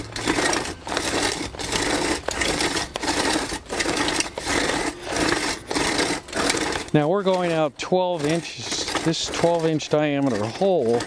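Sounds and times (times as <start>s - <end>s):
blades scraping soil: 0.0s - 11.0s.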